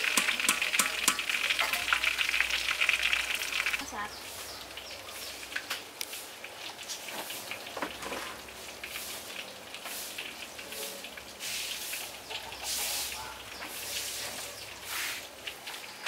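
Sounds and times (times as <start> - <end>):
sharp popping of frying oil: 0.0 - 13.8
hot oil sizzling and crackling: 0.0 - 16.0.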